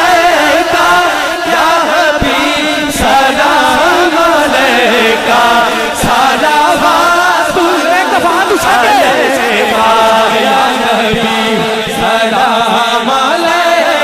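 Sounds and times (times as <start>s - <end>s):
man singing devotional chant: 0.0s - 14.0s.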